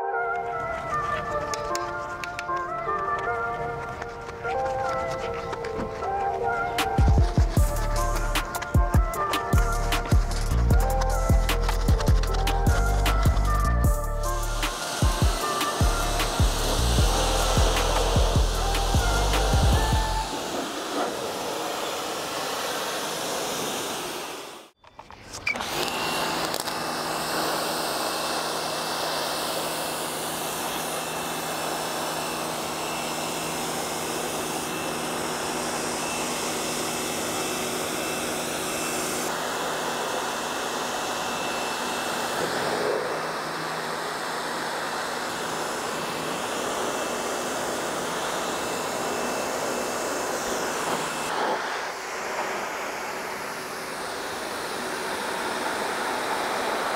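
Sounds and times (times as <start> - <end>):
pressure washer motor humming: 0.0 - 24.8, 25.4 - 56.9
pressure washer water jet hiss: 6.8 - 24.7, 25.8 - 56.9.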